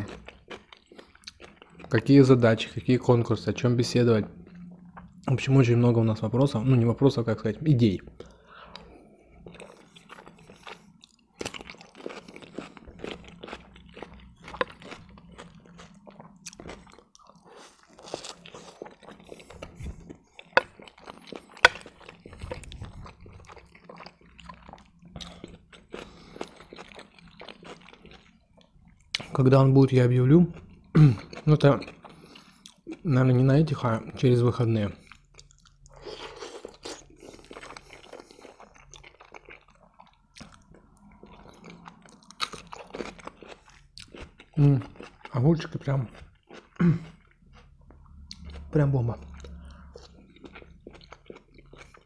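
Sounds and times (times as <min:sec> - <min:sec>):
chewing and wet mouth sounds: 0:00.0 - 0:06.7, 0:07.9 - 0:29.6, 0:30.2 - 0:52.0.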